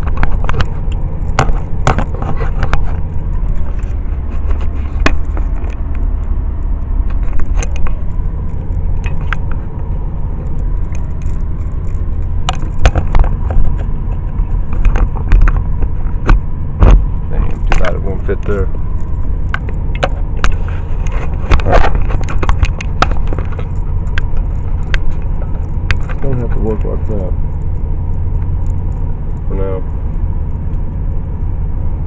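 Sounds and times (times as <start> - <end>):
car engine rumble: 0.0 - 32.0
road noise: 0.0 - 32.0.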